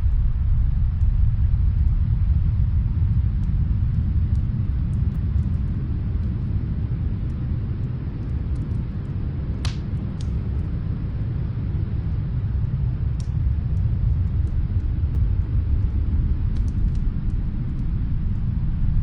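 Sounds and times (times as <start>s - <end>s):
fire crackling faintly: 0.0s - 19.0s
wind rumbling: 0.0s - 19.0s.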